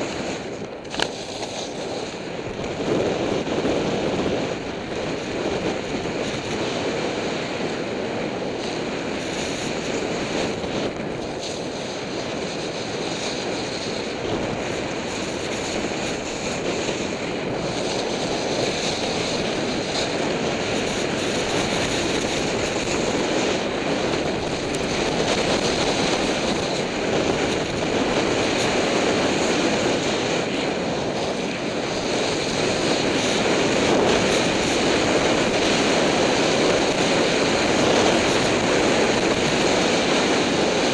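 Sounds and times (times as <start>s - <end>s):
skis scraping on packed snow: 0.0s - 40.9s
wind rushing over microphone: 0.0s - 40.9s.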